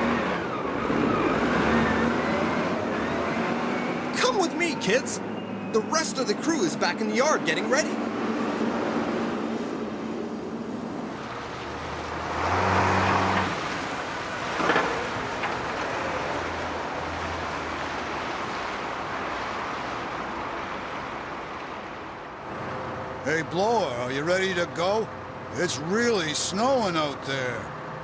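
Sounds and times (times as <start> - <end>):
traffic noise: 0.0 - 28.0
vehicle engines running: 0.0 - 28.0.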